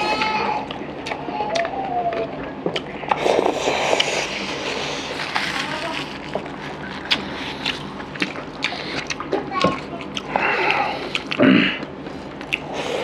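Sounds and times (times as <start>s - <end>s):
chewing: 0.6s - 13.0s.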